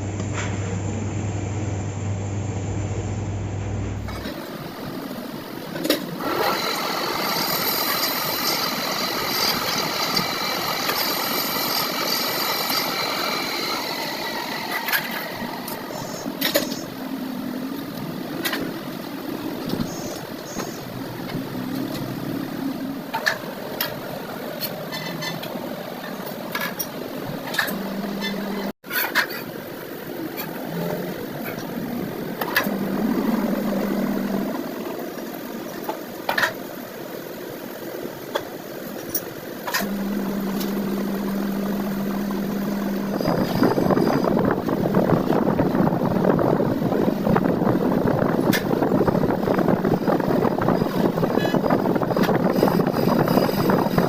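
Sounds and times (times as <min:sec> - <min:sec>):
workshop machine steady tone: 0:00.0 - 0:28.8, 0:31.3 - 0:35.9, 0:39.6 - 0:54.0.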